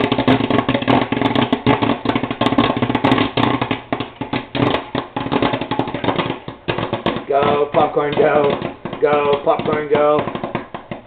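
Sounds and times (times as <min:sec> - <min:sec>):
popcorn popping: 0:00.0 - 0:11.0.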